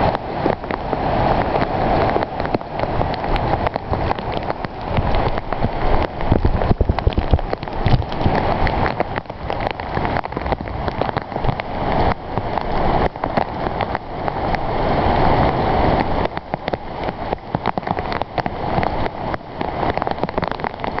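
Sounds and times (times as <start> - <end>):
heavy rain on asphalt: 0.0 - 21.0.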